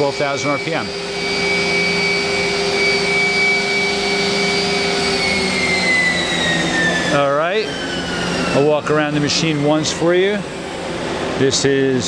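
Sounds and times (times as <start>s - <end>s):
machine spindle high whine: 0.0s - 12.0s.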